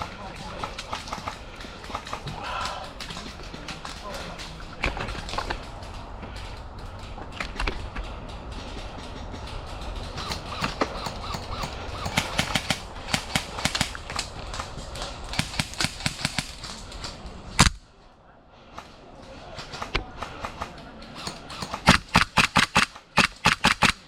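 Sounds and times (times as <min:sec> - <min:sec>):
steady low rumble: 0:00.0 - 0:21.1.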